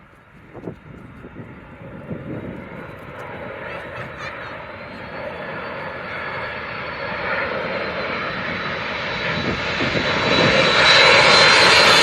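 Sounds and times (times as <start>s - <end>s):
airliner engine whine overhead: 0.0s - 12.0s.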